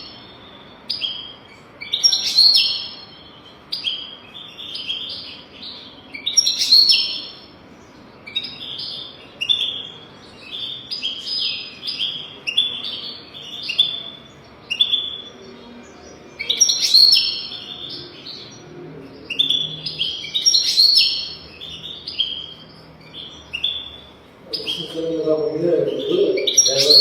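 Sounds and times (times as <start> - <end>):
goldfinch twittering song: 0.0 - 27.0.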